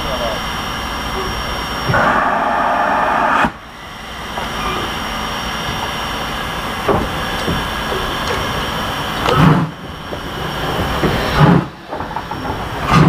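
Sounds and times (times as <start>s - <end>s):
loud steam hiss: 0.0s - 13.0s
steam locomotive running: 0.0s - 13.0s.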